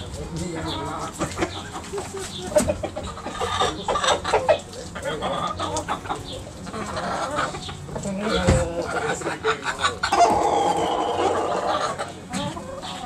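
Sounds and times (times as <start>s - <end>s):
chickens clucking: 0.0s - 13.0s
chickens scratching: 0.0s - 13.0s.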